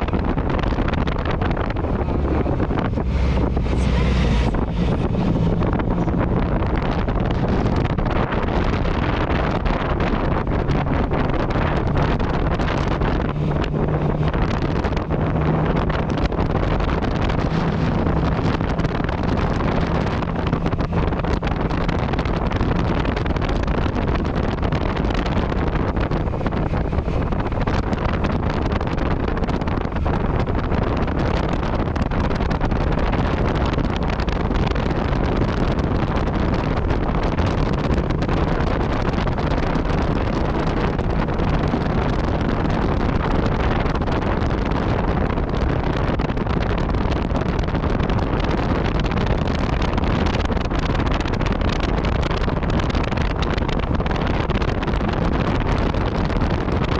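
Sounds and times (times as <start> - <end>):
motorcycle engine cruising: 0.0 - 56.9
wind noise on microphone: 0.0 - 56.9.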